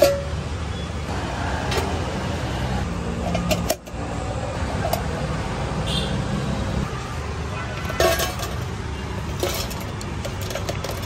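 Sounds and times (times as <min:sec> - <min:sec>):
low rumble of traffic or engine: 0:00.0 - 0:11.0.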